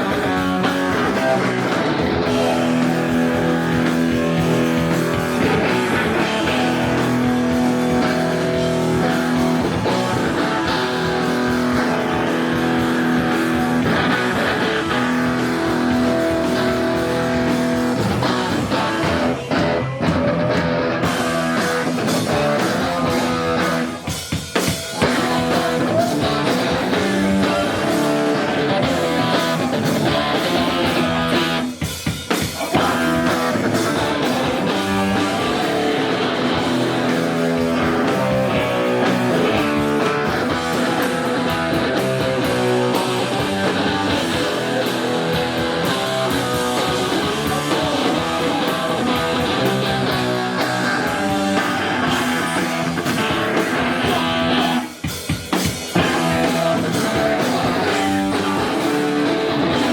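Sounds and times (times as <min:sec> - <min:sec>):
live punk band playing: 0:00.0 - 0:59.9.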